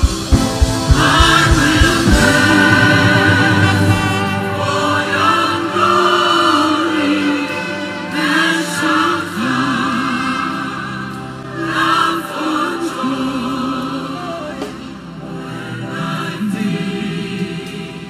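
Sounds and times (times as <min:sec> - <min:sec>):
choir singing gospel song: 0:00.0 - 0:18.0
low musical accompaniment: 0:00.0 - 0:18.0.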